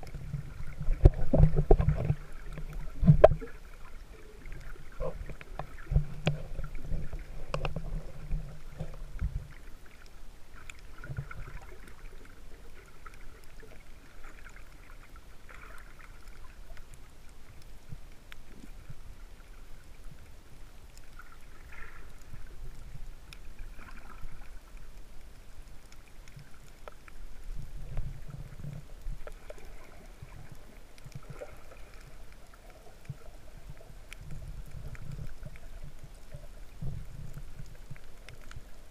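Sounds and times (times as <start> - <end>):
faint clicks: 0.0 - 38.9
underwater water sloshing: 0.0 - 38.9.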